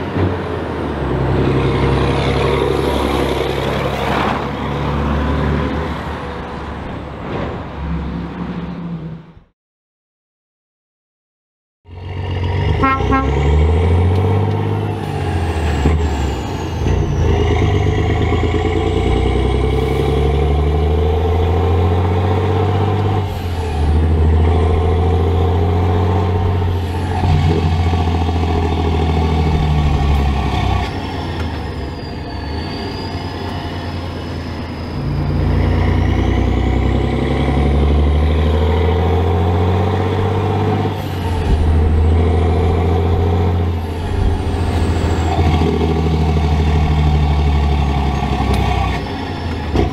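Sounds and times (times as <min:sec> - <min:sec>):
truck diesel engine accelerating: 0:00.0 - 0:09.5, 0:11.9 - 0:49.9.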